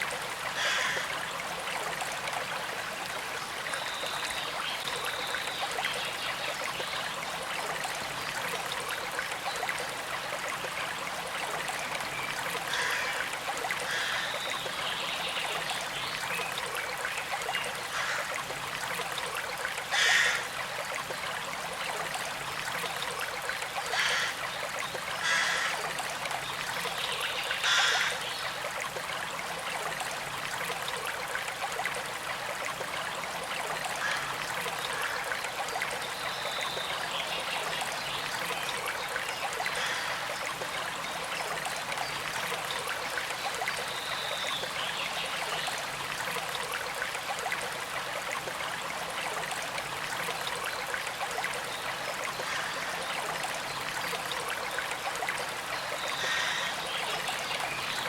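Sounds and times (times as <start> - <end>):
stream trickling: 0.0 - 58.0
water splashes and gurgles: 0.0 - 58.0.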